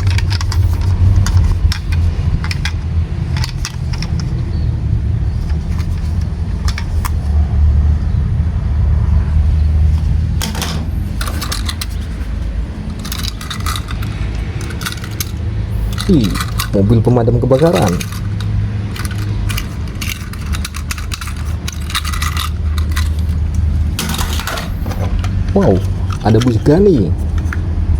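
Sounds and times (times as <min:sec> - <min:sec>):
toy cars clicking and clattering: 0:00.0 - 0:04.6, 0:05.3 - 0:07.3, 0:09.9 - 0:27.7
steady low rumble: 0:00.0 - 0:27.9.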